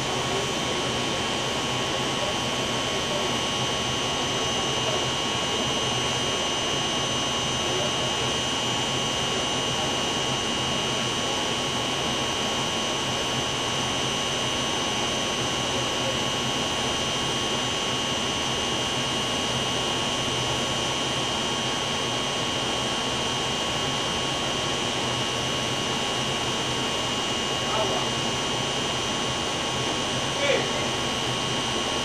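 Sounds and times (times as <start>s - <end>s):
high steady whine: 0.0s - 32.0s.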